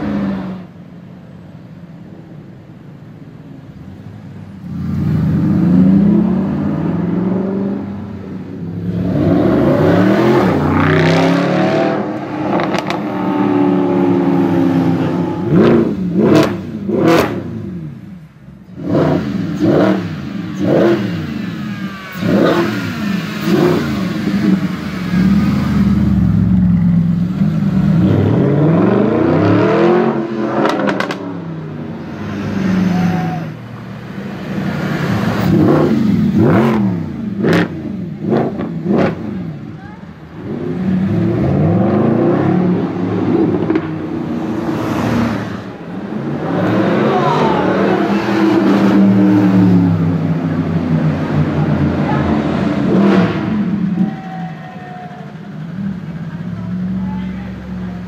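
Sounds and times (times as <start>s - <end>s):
car engine revving: 4.6s - 54.0s.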